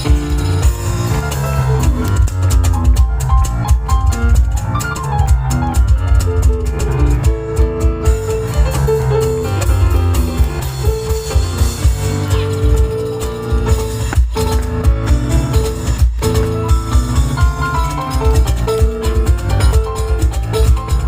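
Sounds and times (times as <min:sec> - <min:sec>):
cajon beats: 0:00.0 - 0:21.0
piano playing: 0:00.0 - 0:21.0.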